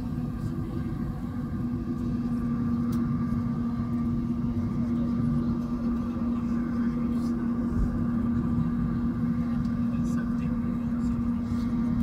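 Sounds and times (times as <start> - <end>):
airplane engine and airframe rumble: 0.0 - 12.0
low cabin hum: 0.0 - 12.0.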